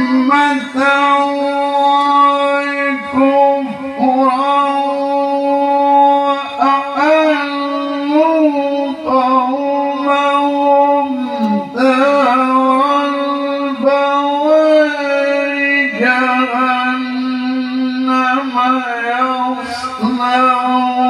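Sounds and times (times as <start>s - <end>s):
man reciting melodically through microphone: 0.0s - 21.0s.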